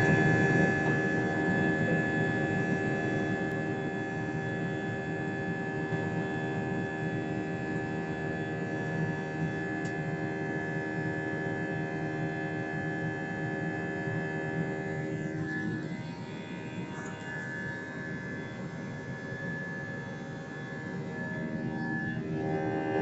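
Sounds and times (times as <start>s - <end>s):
jet engines inside cabin: 0.0s - 23.0s.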